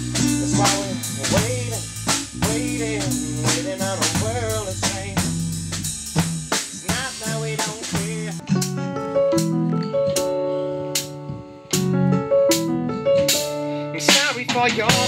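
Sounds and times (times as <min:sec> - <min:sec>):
band music with drums: 0:00.0 - 0:09.6, 0:11.8 - 0:15.0.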